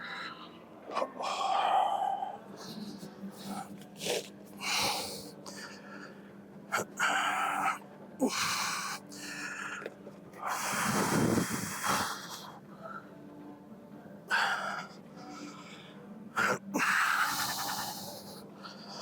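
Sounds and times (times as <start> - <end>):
person breathing hard: 0.0 - 13.2, 14.3 - 19.0
faint low hum: 0.0 - 19.0.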